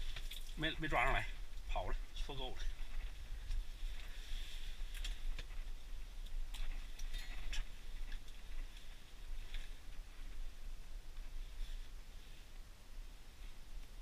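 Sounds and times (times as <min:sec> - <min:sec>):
light clicks and rustles of gear: 0:00.0 - 0:12.7
steady low rumble: 0:00.0 - 0:14.0.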